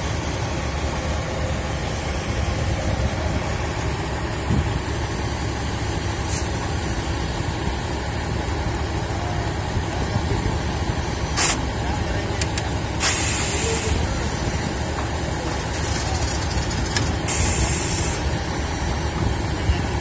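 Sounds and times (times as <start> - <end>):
heavy equipment engine idling: 0.0 - 20.0.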